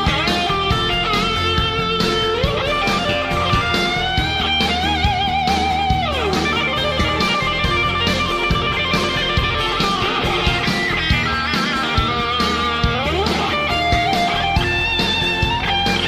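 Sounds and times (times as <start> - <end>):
electric guitar lead over beat: 0.0 - 16.0.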